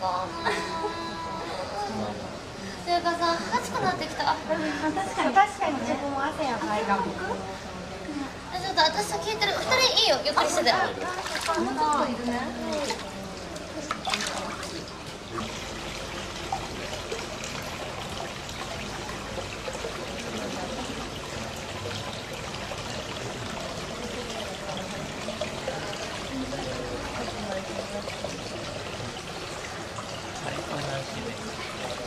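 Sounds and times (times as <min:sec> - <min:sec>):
faint voices: 0:00.0 - 0:32.0
water trickling and pouring: 0:02.0 - 0:32.0.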